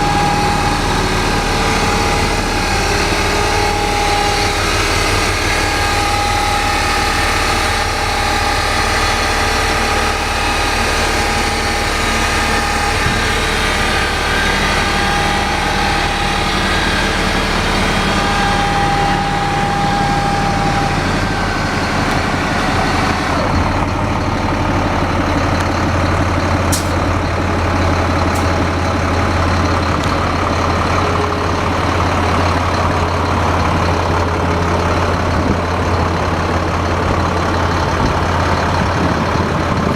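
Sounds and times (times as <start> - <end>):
deep low hum: 0.0 - 34.3
diesel engine idling: 0.0 - 39.9.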